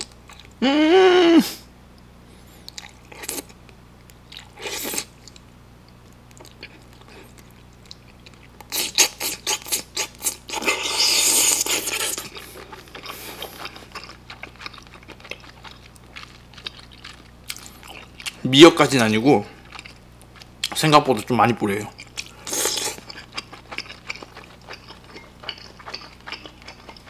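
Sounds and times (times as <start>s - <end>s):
chewing with wet mouth smacks: 2.6s - 18.4s, 19.6s - 20.8s, 21.9s - 27.0s.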